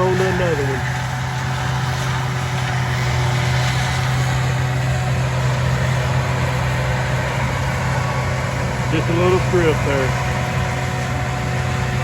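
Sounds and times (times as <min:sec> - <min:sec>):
diesel engine low hum: 0:00.0 - 0:12.0.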